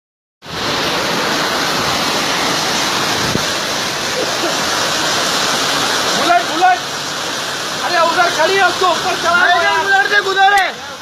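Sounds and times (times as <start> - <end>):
heavy rain pouring: 0.4 - 11.0.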